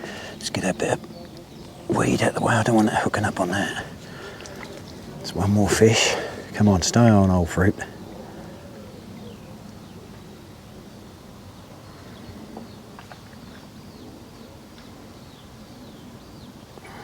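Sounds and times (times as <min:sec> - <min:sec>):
birds chirping: 0:00.0 - 0:17.0
outdoor background noise: 0:00.0 - 0:17.0.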